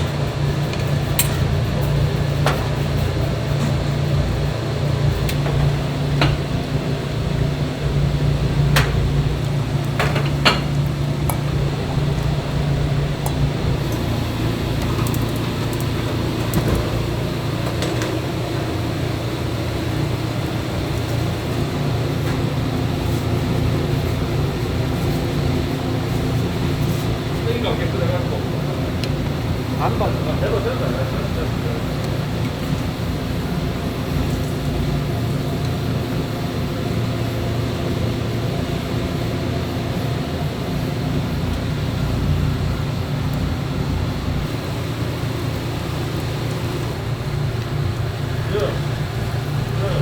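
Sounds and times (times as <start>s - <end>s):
machine hum: 0.0s - 50.0s.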